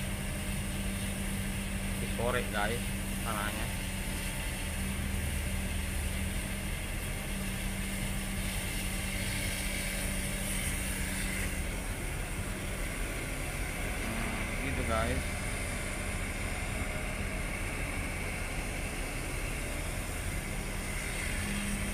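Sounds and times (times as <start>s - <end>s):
excavator digging mud: 0.0s - 21.9s.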